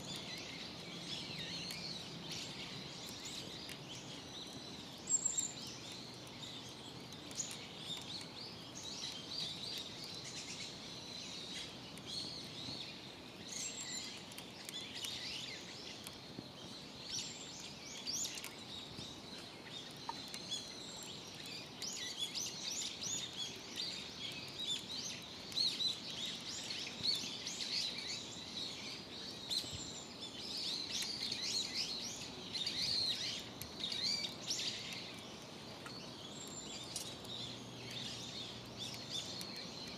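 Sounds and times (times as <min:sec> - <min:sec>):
faint steady background hiss: 0:00.0 - 0:39.9
small birds chirping: 0:00.0 - 0:39.9.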